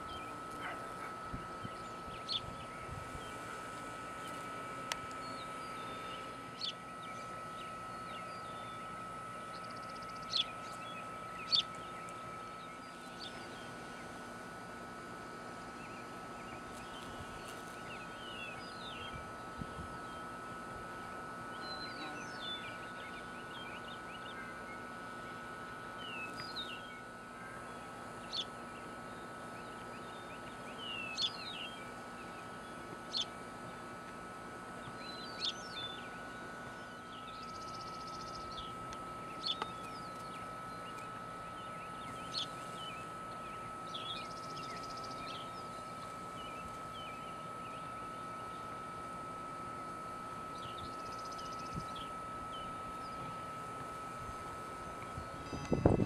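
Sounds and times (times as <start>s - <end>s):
faint steady high hum: 0.0s - 56.0s
outdoor background noise: 0.0s - 56.0s
wild birds chirping: 0.0s - 56.0s.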